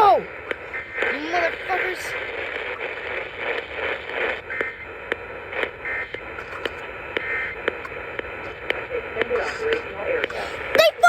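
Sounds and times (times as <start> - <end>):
am radio broadcast: 0.0 - 11.0
crackling clicks: 0.0 - 11.0
static hiss: 0.0 - 11.0.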